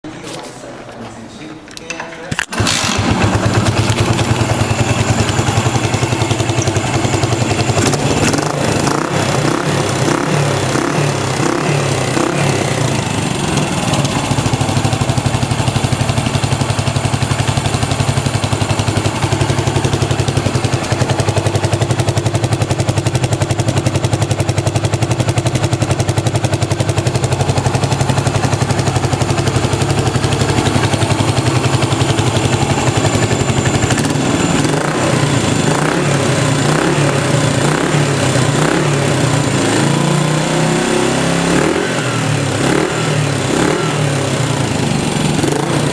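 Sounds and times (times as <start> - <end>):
motorcycle engine running: 2.5 - 45.9.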